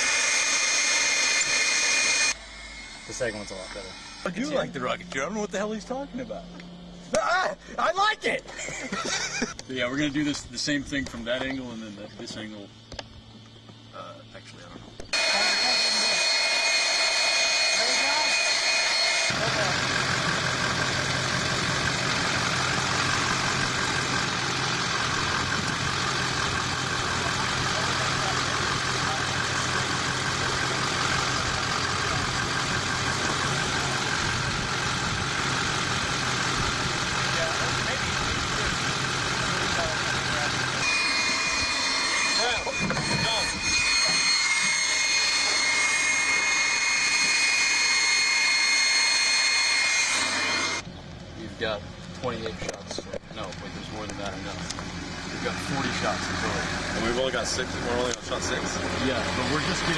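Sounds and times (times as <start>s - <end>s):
car engine running: 0.0s - 7.8s, 9.1s - 59.9s
machine whining: 0.0s - 52.5s, 53.4s - 59.9s.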